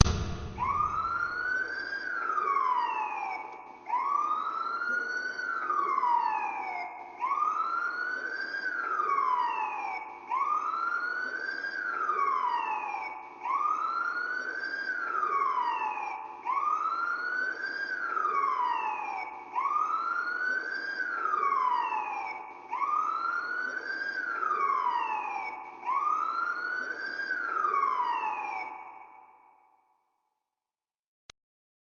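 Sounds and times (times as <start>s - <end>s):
police siren wailing: 0.0s - 29.4s.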